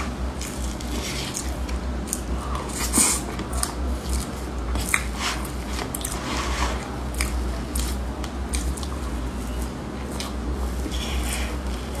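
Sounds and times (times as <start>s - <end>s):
chewing with mouth clicks: 0.3s - 6.2s, 7.1s - 12.0s.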